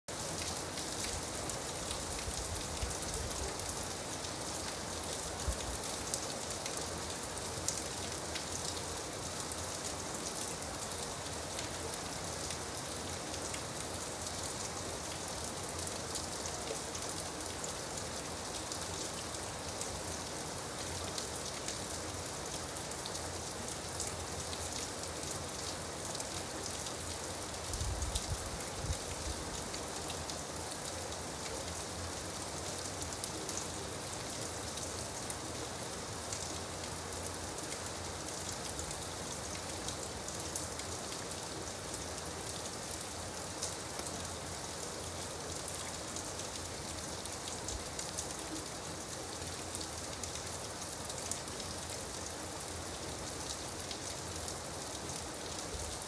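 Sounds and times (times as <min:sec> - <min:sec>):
steady rain: 0:00.1 - 0:56.0.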